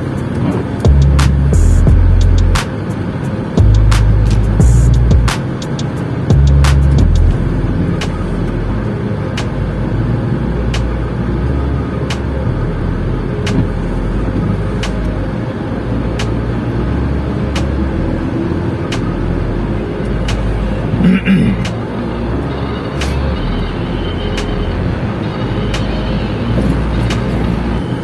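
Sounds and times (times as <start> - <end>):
car engine rumbling: 0.0 - 28.0.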